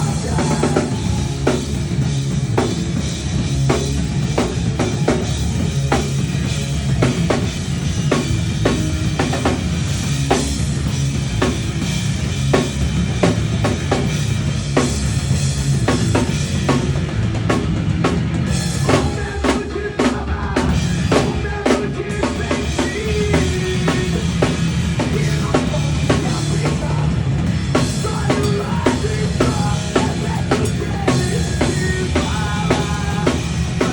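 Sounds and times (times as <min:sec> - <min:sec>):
bass and instruments: 0:00.0 - 0:33.9
rock drum beat: 0:00.0 - 0:33.9.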